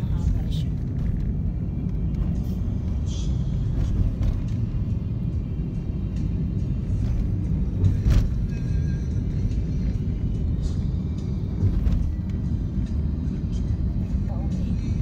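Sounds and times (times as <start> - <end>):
car road and engine rumble: 0.0 - 15.0
faint music: 0.0 - 15.0.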